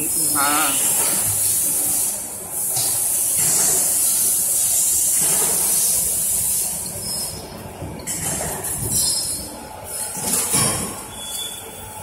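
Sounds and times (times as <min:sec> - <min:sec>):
factory machinery hissing: 0:00.0 - 0:12.0.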